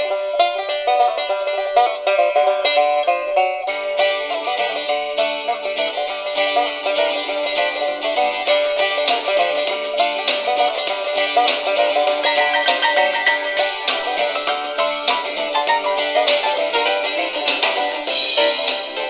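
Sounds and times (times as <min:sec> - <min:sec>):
song with picked notes on small radio speaker: 0:00.0 - 0:19.0.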